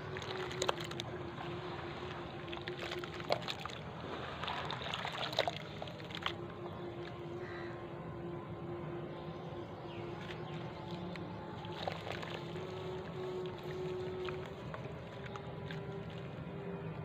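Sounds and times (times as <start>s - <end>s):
steady low hum: 0.0s - 17.0s
water sloshing and crackling: 0.0s - 17.0s.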